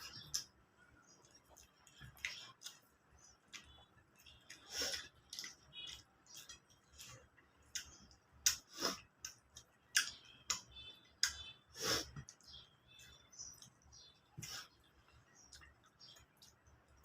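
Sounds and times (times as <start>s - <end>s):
wet chewing clicks and smacks: 0.0s - 17.0s.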